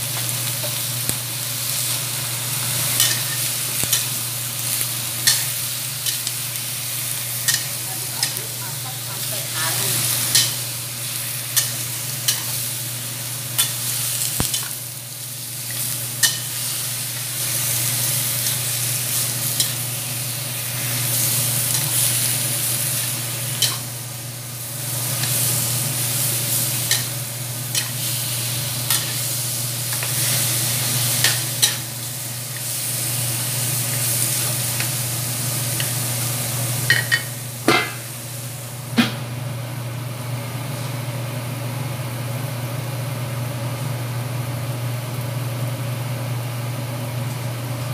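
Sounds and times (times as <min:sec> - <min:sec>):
food sizzling in a wok: 0:00.0 - 0:47.9.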